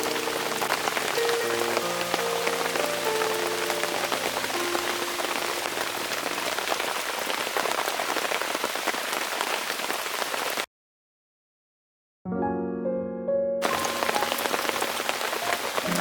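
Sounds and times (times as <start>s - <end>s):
heavy rain falling: 0.0s - 10.7s, 13.6s - 16.0s.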